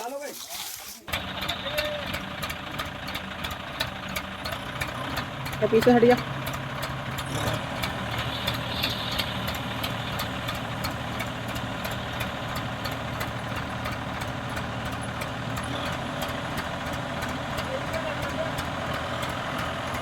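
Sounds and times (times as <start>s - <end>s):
diesel tractor engine idling: 1.1s - 20.0s.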